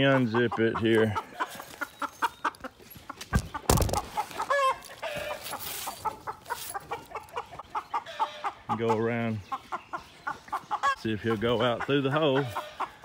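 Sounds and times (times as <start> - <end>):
rooster clucking: 0.0 - 13.0.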